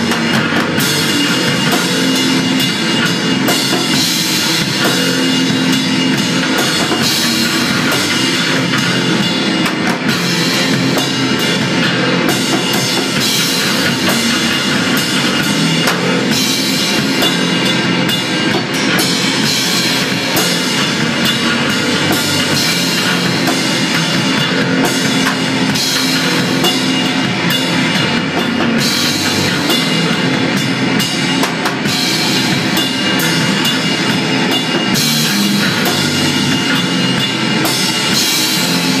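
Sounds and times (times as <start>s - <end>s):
distorted guitar: 0.0s - 39.0s
drum kit with cymbals: 0.0s - 39.0s.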